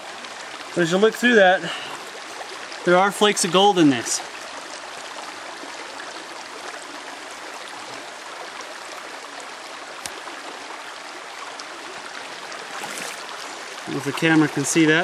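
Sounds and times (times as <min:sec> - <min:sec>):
flowing creek: 0:00.0 - 0:15.0.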